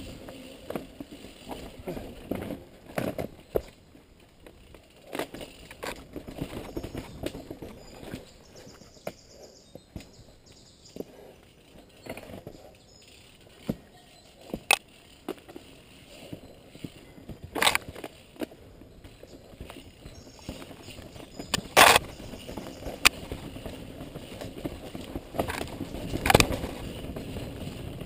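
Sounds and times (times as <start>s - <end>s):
bike knocking and rattling: 0.0s - 28.0s
tyre noise on dirt: 0.0s - 28.0s.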